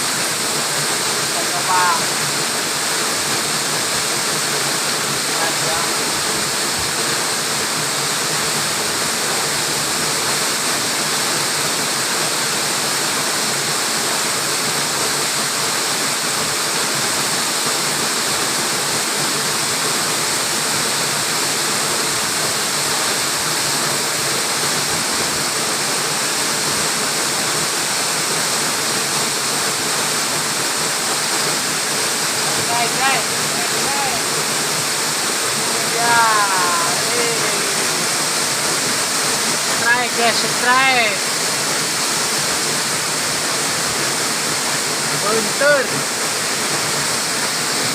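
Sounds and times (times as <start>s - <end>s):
waterfall rushing and splashing: 0.0s - 47.9s.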